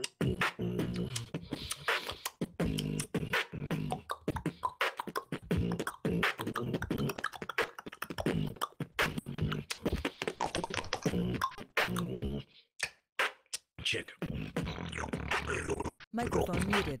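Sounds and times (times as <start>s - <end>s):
beatboxing: 0.0s - 17.0s.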